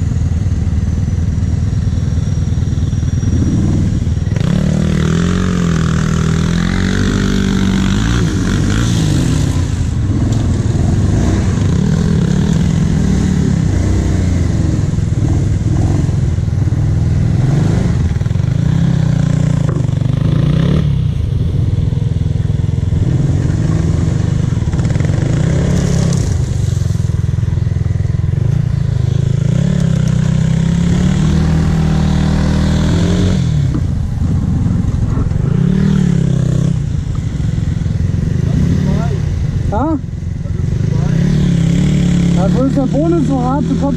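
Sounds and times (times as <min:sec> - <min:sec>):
quad bike engine revving: 0:00.0 - 0:43.9.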